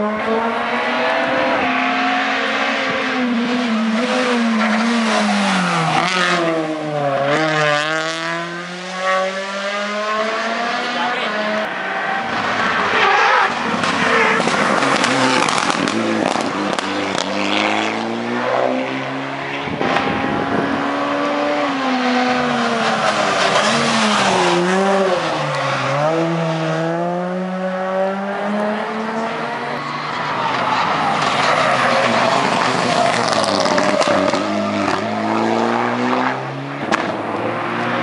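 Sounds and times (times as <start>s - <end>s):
rally car engines revving: 0.0s - 38.0s.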